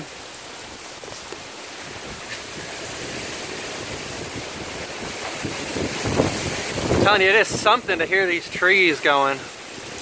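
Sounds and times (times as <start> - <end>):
strong wind rushing through trees: 0.0 - 10.0.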